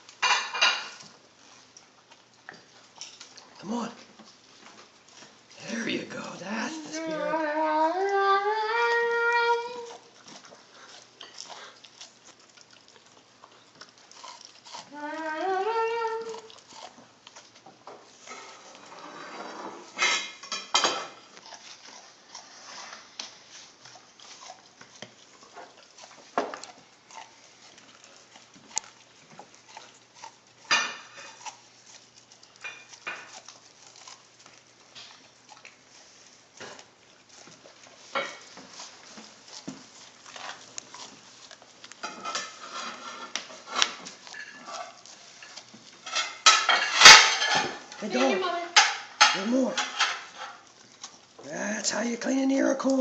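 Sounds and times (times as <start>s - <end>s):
dog chewing corn cob: 0.0s - 53.0s.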